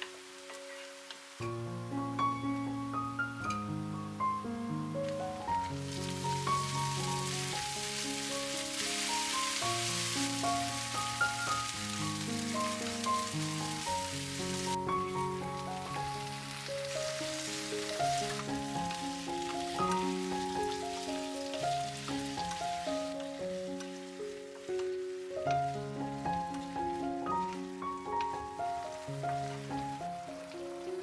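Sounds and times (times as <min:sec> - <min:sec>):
onions sizzling in oil: 0:00.0 - 0:31.0
soft piano music: 0:00.0 - 0:31.0.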